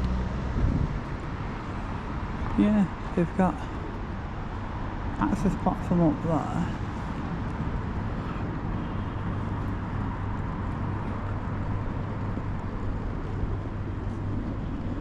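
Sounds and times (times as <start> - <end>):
urban traffic noise: 0.0 - 15.0.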